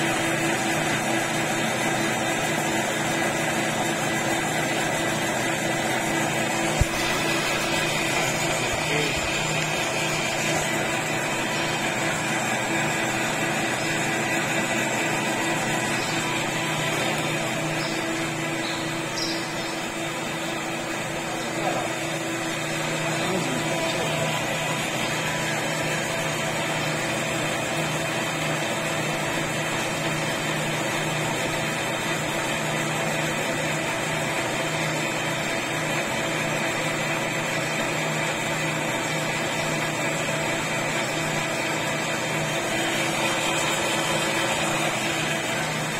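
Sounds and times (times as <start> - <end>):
metal lathe humming: 0.0 - 45.9.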